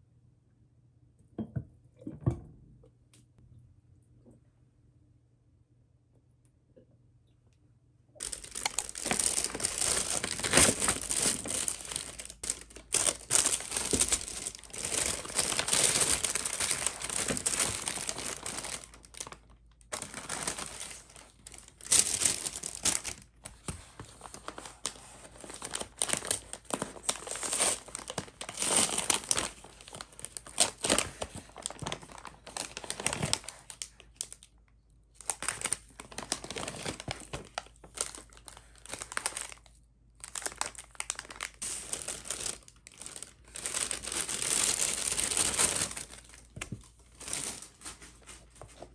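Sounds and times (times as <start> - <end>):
paper and plastic wrappers rustling: 8.2 - 34.5, 35.2 - 48.9.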